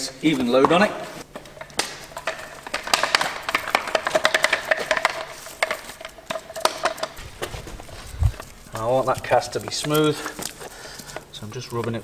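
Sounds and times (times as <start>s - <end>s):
faint steady hum: 0.0s - 12.0s
plastic cling film crackling: 1.6s - 12.0s.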